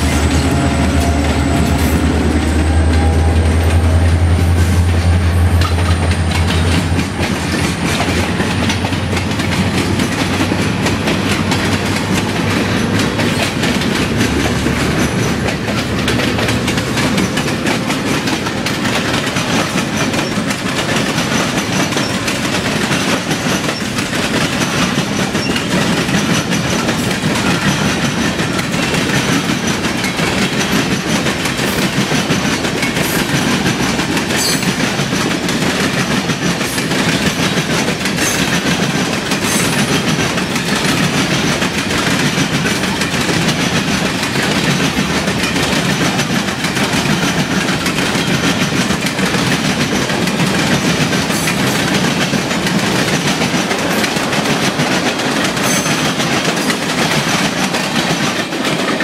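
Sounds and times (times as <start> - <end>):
steel wheels on rails: 0.0 - 59.0.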